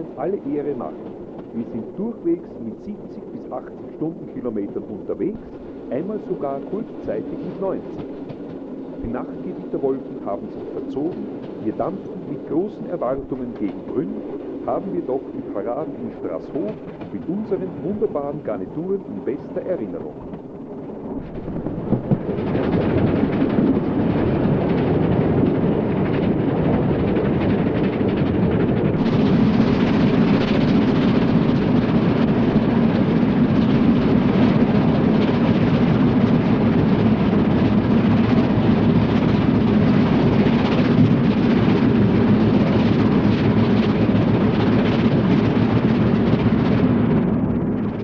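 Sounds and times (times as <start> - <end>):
steam locomotive working: 0.0 - 20.5, 21.2 - 48.0
wheels rumbling on rails: 0.0 - 48.0.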